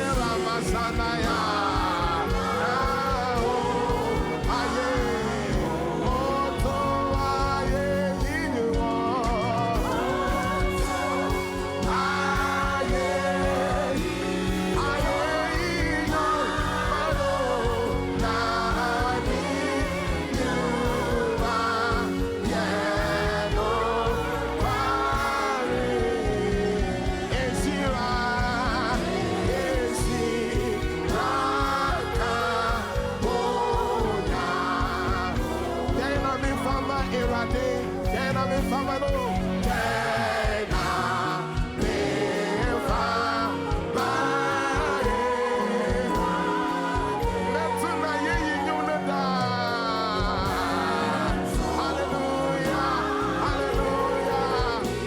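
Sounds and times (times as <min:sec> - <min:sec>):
gospel choir singing: 0:00.0 - 0:55.0
low instrumental accompaniment: 0:00.0 - 0:55.0.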